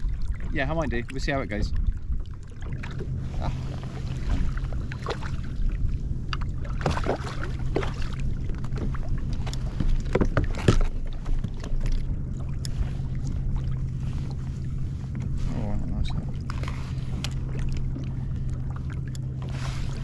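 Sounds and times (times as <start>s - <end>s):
water moving against kayak: 0.0s - 20.0s.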